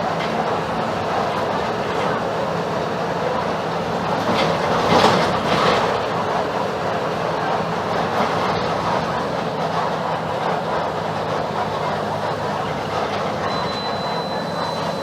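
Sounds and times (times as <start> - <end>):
bus diesel engine droning: 0.0 - 15.0
road noise: 0.0 - 15.0
bus body rattling: 0.1 - 15.0.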